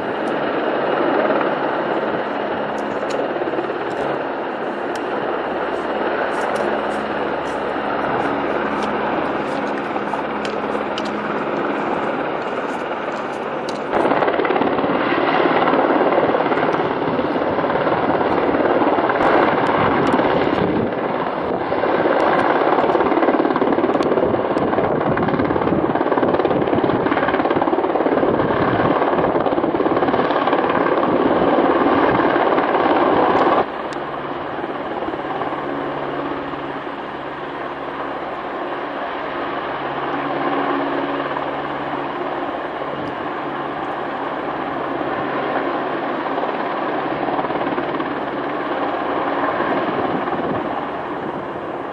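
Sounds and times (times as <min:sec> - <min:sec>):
low drone: 0:00.0 - 0:23.4, 0:32.2 - 0:51.9
helicopter rotor and turbine noise: 0:00.0 - 0:51.9.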